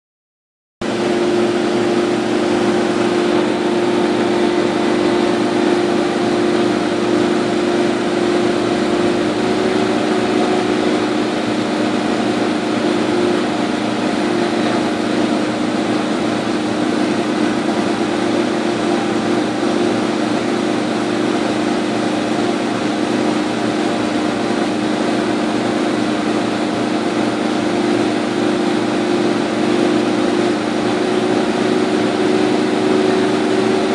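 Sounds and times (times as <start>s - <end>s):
laser cutter whirring: 0.8s - 33.9s.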